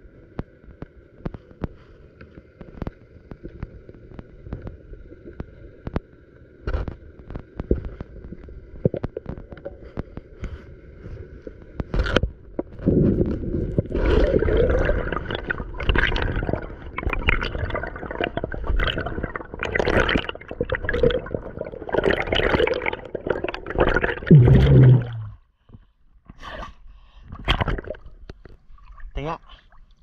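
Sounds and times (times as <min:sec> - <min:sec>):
water sloshing and gurgling: 0:00.0 - 0:30.0.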